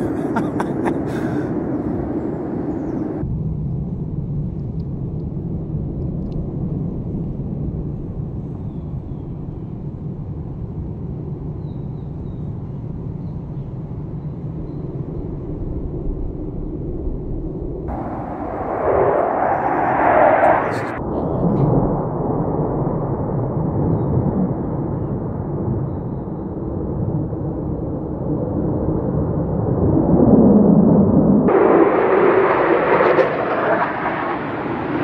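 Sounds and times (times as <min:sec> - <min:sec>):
fighter jet engine rumble: 0:00.0 - 0:11.5, 0:12.1 - 0:35.0.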